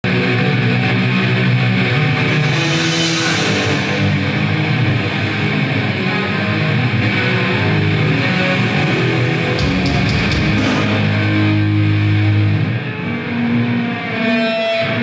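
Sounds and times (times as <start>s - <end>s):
bass guitar: 0.0s - 15.0s
distorted electric guitar: 0.0s - 15.0s.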